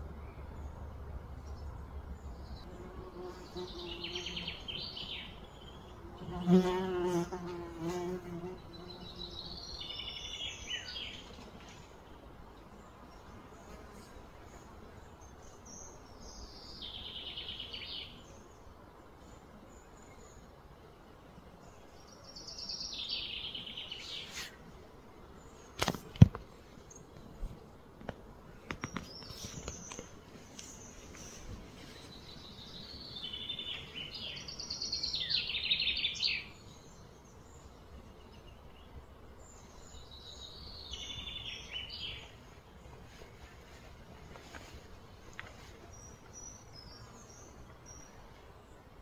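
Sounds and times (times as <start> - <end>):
low outdoor background: 0.0 - 49.0.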